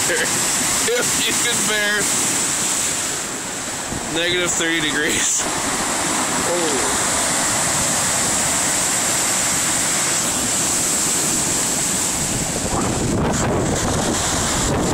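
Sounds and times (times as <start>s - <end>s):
lake waves breaking: 0.0s - 14.9s
wind on microphone: 2.1s - 14.9s.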